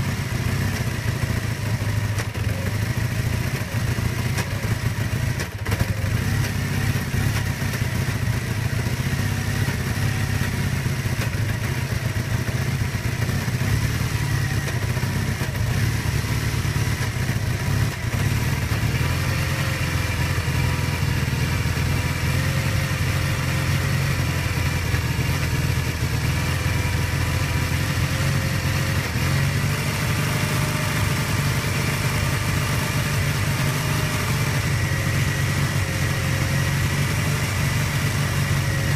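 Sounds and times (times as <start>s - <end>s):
motorcycle engine idling roughly: 0.0s - 38.9s.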